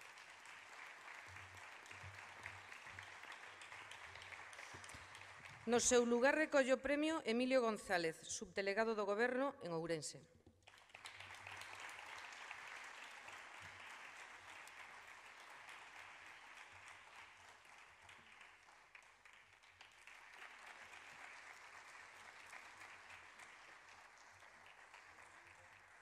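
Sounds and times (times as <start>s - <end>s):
audience applauding: 0.0s - 6.1s, 10.6s - 26.0s.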